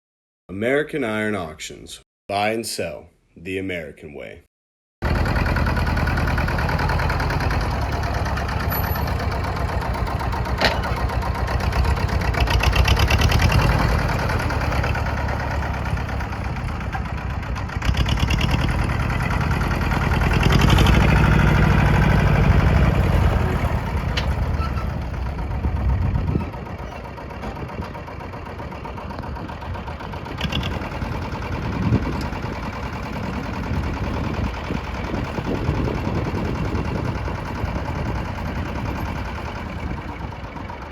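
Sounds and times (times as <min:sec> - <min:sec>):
tractor engine running: 0:05.0 - 0:40.9.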